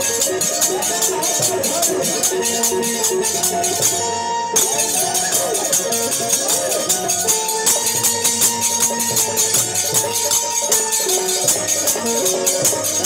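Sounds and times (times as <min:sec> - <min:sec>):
fast drum rhythm: 0:00.0 - 0:04.0, 0:04.6 - 0:13.0
banjo melody: 0:00.0 - 0:13.0
jingling percussion: 0:00.0 - 0:13.0.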